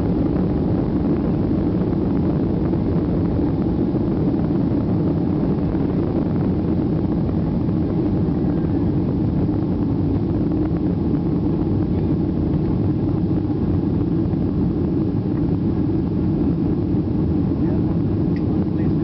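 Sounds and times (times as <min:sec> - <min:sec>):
jet engines heard from cabin: 0:00.0 - 0:19.0.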